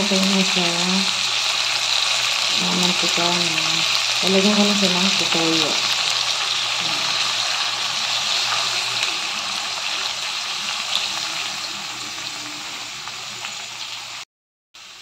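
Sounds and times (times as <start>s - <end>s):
chicken sizzling in a wok: 0.0s - 15.0s.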